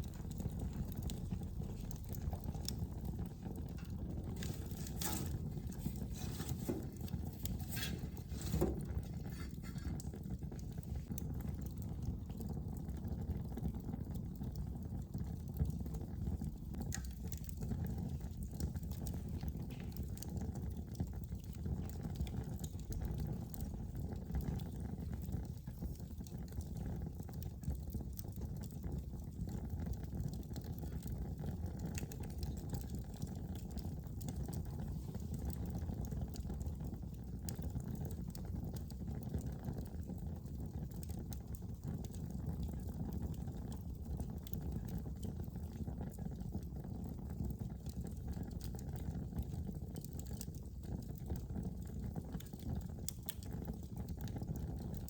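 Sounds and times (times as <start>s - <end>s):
fire crackles and pops: 0.0s - 55.0s
fire rushing in fireplace: 0.0s - 55.0s.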